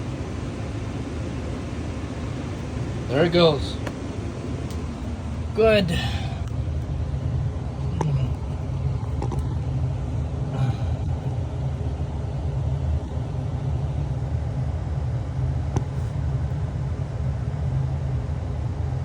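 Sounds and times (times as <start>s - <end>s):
furnace blower rumbling: 0.0s - 19.0s.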